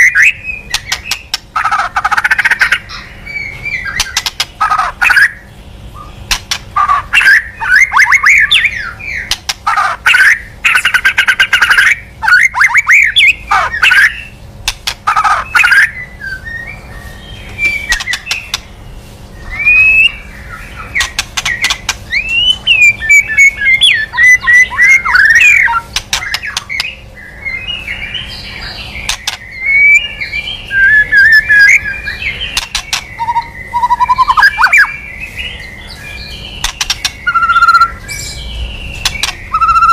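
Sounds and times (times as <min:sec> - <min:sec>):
songbird whistling and clicking: 0:00.0 - 0:05.3, 0:06.0 - 0:16.8, 0:17.4 - 0:18.7, 0:19.4 - 0:39.9.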